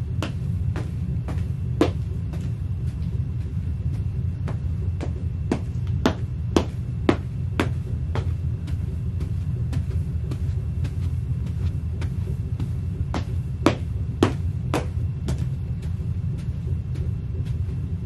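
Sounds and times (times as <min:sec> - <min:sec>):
boots stomping on carpet: 0:00.0 - 0:18.0
low rumble: 0:00.0 - 0:18.0.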